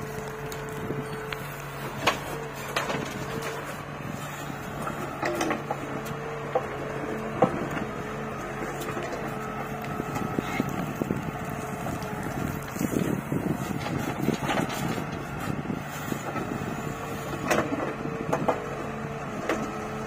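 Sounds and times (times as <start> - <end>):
diesel engine running under load: 0.0 - 20.0.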